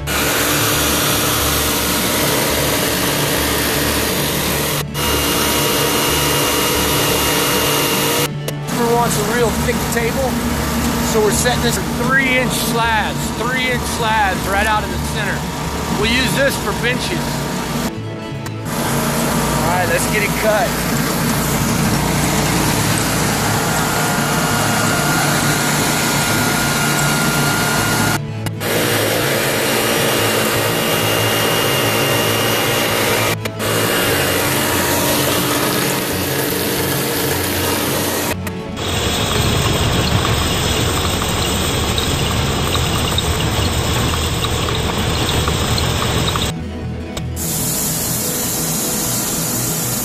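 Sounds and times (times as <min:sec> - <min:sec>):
bandsaw blade cutting log: 0:00.0 - 0:17.9, 0:18.6 - 0:46.5, 0:47.4 - 0:50.0
sawmill engine running: 0:00.0 - 0:50.0.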